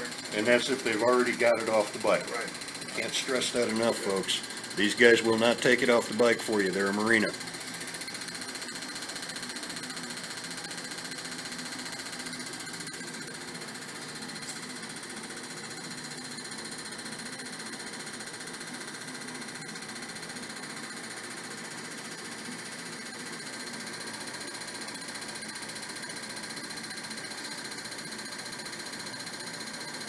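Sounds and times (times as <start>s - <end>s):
fast buzzing clatter of injectors: 0.0s - 30.0s
steady machine whine: 0.0s - 30.0s.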